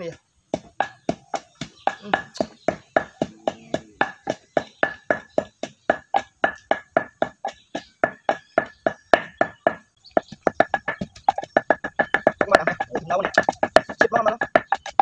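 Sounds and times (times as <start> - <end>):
wooden pestle pounding in a mortar: 0.5 - 15.0.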